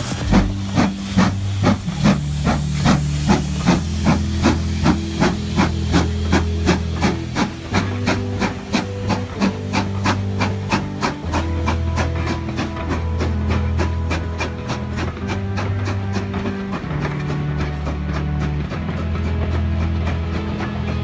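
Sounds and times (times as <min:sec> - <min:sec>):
steam locomotive chuffing: 0:00.0 - 0:21.0.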